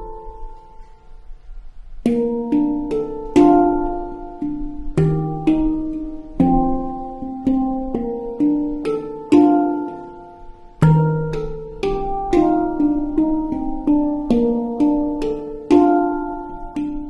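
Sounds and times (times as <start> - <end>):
handpan melody: 0.0 - 17.0.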